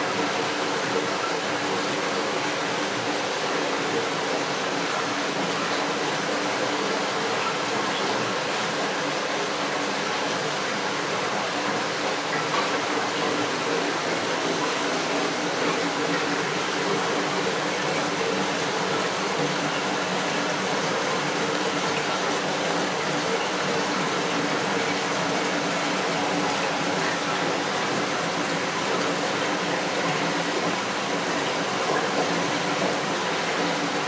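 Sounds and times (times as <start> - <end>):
faint pump hum: 0.0 - 34.0
rushing water: 0.0 - 34.0.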